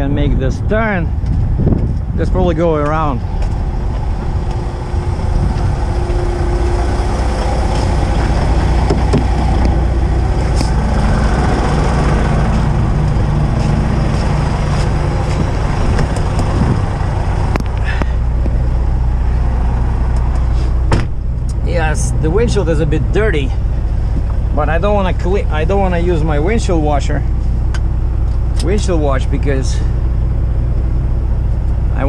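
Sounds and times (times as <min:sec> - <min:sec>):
truck diesel engine driving off: 0:02.8 - 0:32.0.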